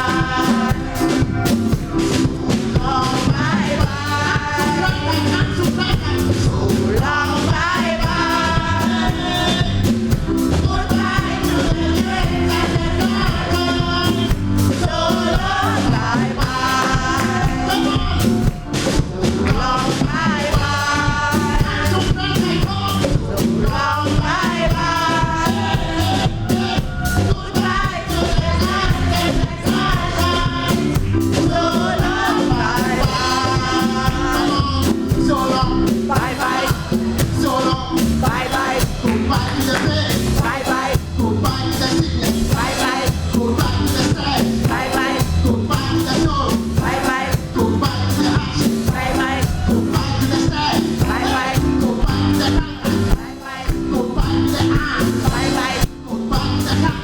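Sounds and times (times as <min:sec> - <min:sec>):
band with bass and drums: 0:00.0 - 0:57.0
choir singing: 0:00.0 - 0:57.0.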